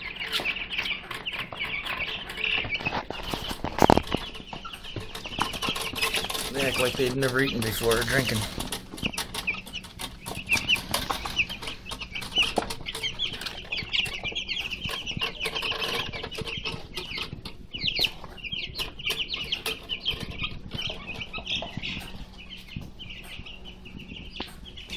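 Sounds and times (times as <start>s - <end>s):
beaks pecking at feed: 0.0s - 24.9s
chicks peeping: 0.0s - 24.9s.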